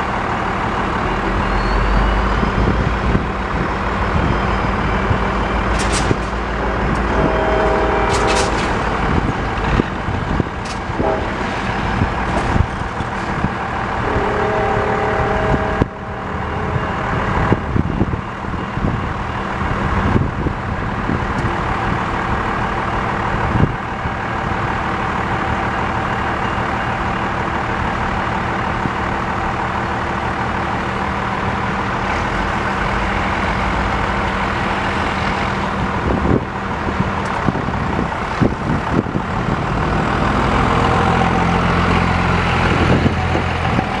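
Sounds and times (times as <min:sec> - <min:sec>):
vehicle engines idling: 0:00.0 - 0:44.0.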